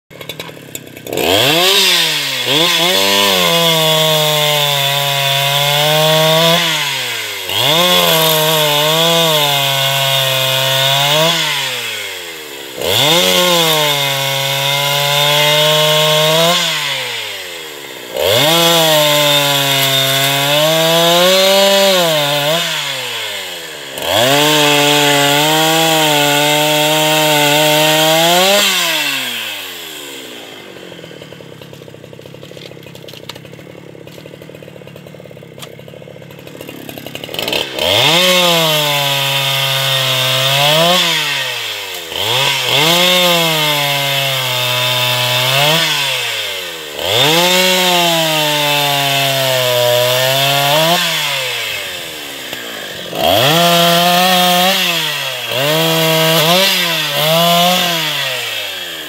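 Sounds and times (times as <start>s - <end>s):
chainsaw cutting logs: 0.0s - 59.0s
chainsaw idling: 0.1s - 59.0s.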